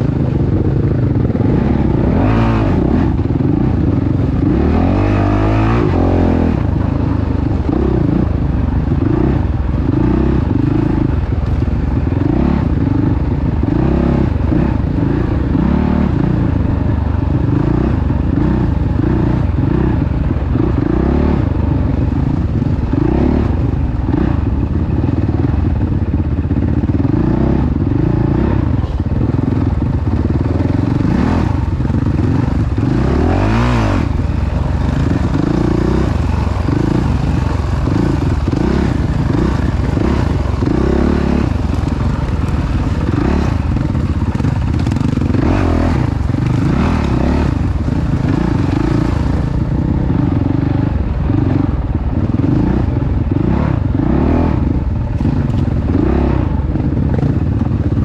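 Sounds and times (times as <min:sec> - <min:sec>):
clatter: 0:00.0 - 0:58.0
motorcycle engine revving: 0:00.0 - 0:58.0.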